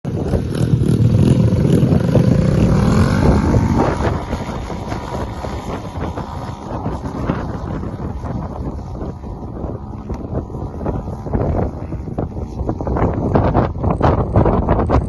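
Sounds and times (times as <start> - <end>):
dirt bike engine revving: 0.1 - 14.5
wind buffeting microphone: 0.1 - 15.0.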